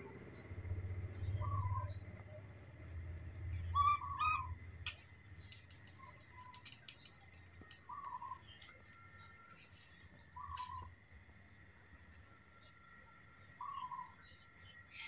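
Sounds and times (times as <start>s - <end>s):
birds chirping: 0.0s - 15.0s
high insect hum: 0.0s - 15.0s.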